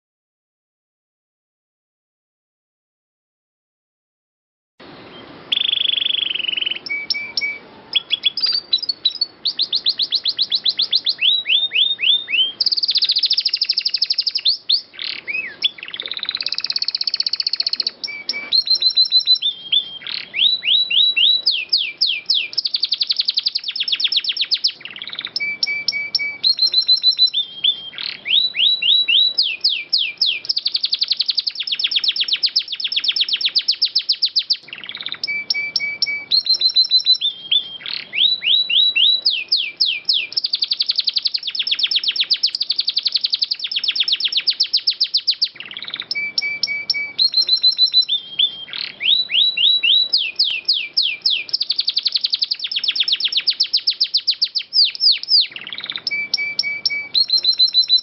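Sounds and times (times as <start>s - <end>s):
canary singing trills: 4.8s - 58.0s.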